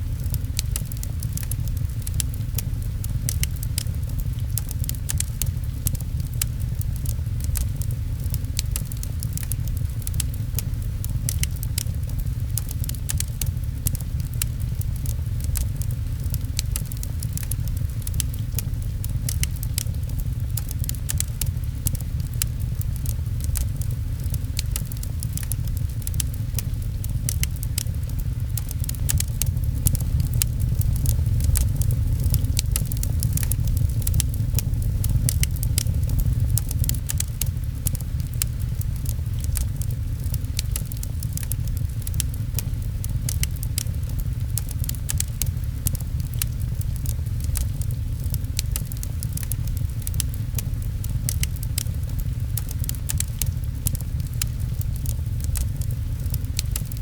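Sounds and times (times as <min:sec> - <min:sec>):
fireplace crackling and popping: 0:00.0 - 0:57.0
low rumble: 0:00.0 - 0:57.0
rain patter: 0:00.0 - 0:57.0.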